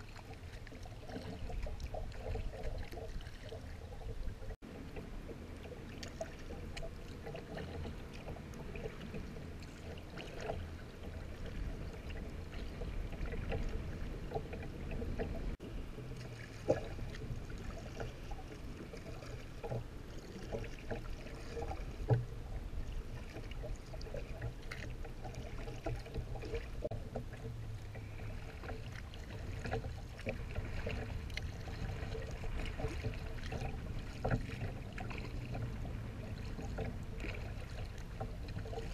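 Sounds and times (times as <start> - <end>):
paddle splashes and knocks: 0.0 - 38.9
water splashing at hull: 0.0 - 38.9.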